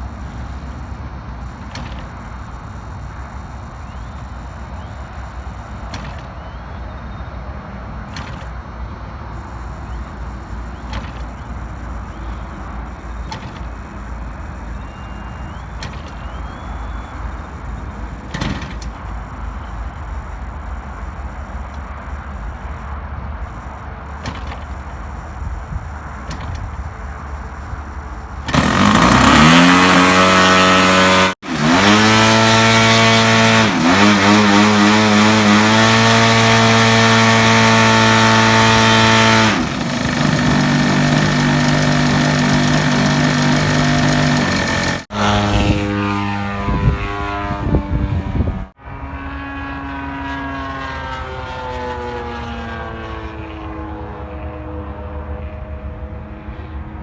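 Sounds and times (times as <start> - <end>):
model airplane engine revving: 0.0 - 20.1, 24.0 - 48.8, 49.6 - 54.9.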